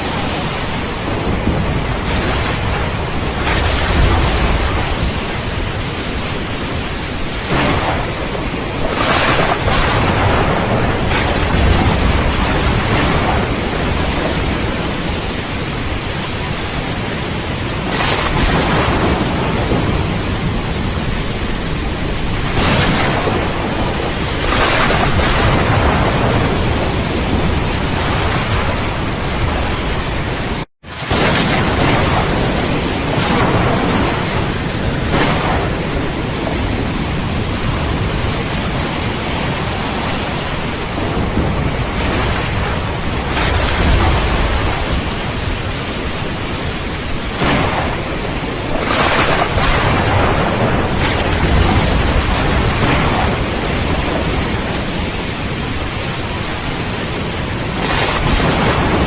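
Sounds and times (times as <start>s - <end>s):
heavy rain: 0.0s - 59.0s
thunder rumbling: 0.0s - 59.0s.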